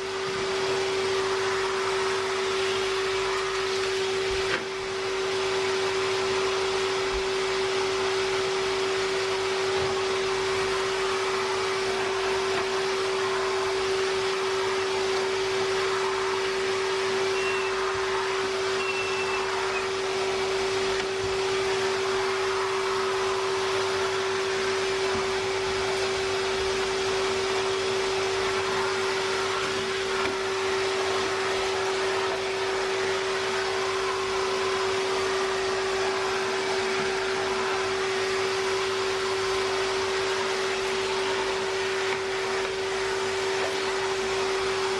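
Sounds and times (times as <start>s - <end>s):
vacuum cleaner running with whine: 0.0s - 44.9s.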